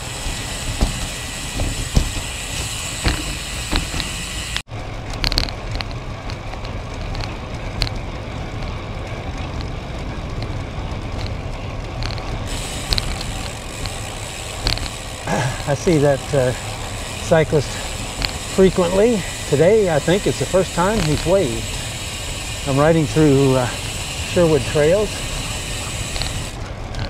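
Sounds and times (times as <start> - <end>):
wind and tyre noise: 0.0 - 27.0
light bike clicks: 0.2 - 27.0.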